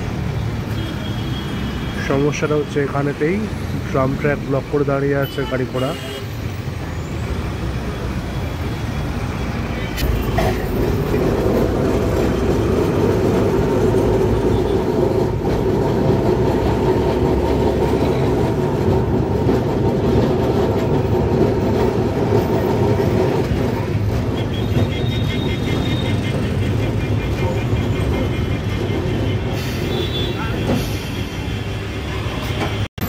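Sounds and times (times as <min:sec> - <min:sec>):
tram wheels rumbling on rails: 0:06.4 - 0:32.9.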